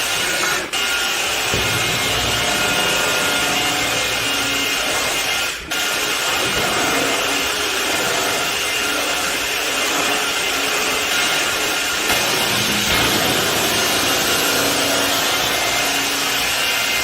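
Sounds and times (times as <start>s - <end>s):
vacuum mop motor whine: 0.1s - 17.0s.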